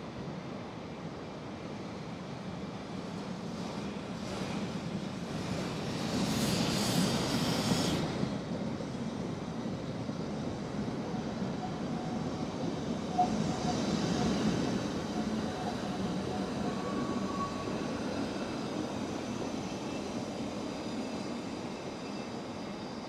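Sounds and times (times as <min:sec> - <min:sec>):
steam train passing: 0:02.9 - 0:23.0.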